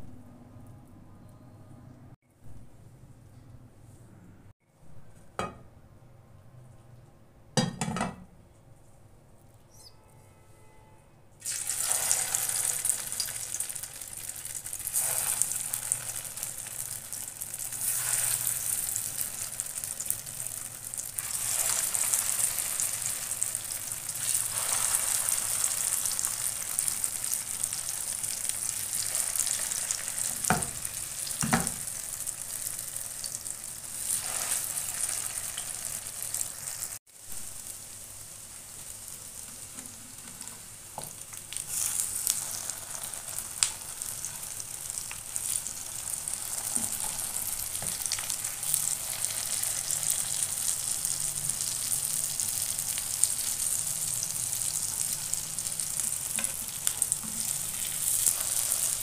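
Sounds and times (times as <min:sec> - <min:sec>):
patties sizzling in hot oil: 0:11.4 - 0:59.0.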